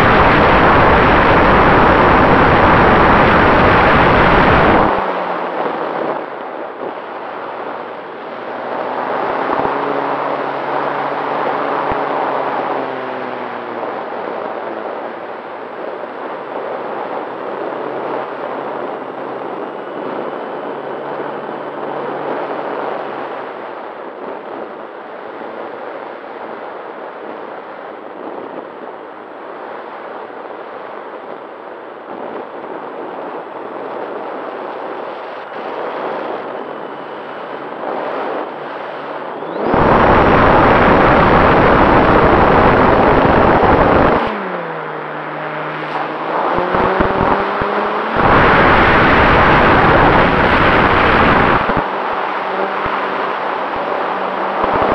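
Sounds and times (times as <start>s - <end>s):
airflow rushing over camera: 0.0s - 25.8s, 27.2s - 54.9s
propeller and wind rush: 0.0s - 54.9s.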